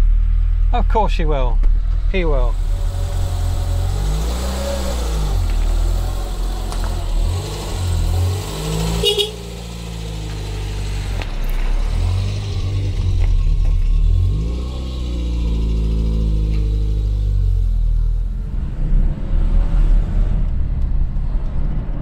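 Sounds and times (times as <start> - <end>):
car engine revving: 1.6 - 22.0.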